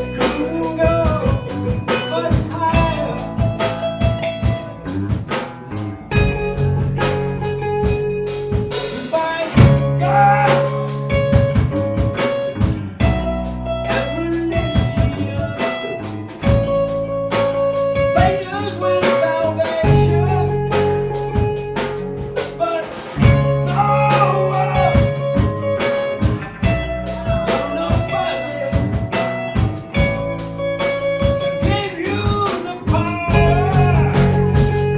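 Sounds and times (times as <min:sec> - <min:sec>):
live blues-rock band playing: 0:00.0 - 0:34.9.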